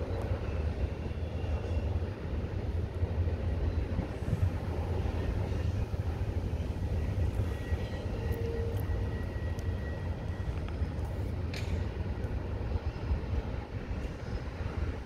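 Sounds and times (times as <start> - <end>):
freight train rolling on rails: 0.0 - 15.0.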